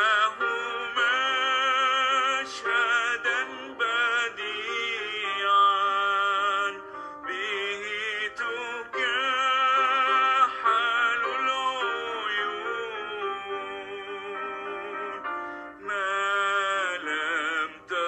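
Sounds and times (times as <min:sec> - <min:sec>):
hymn with wavering sung notes: 0:00.0 - 0:18.0.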